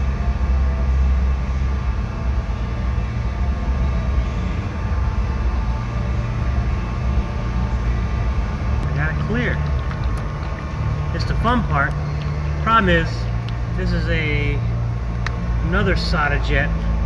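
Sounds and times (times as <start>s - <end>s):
spray booth air system rumble: 0.0s - 17.0s.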